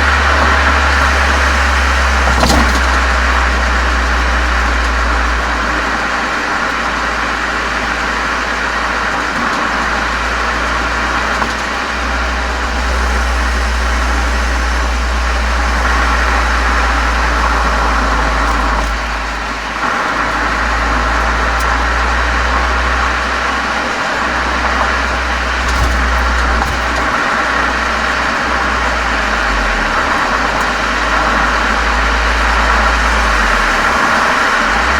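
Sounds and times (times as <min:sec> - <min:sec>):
car exhaust drone: 0:00.0 - 0:34.9
steady hiss: 0:00.0 - 0:34.9.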